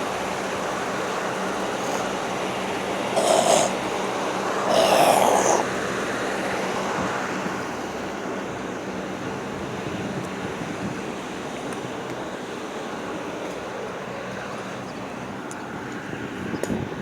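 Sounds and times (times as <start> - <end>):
air conditioning fan rush: 0.0 - 17.0.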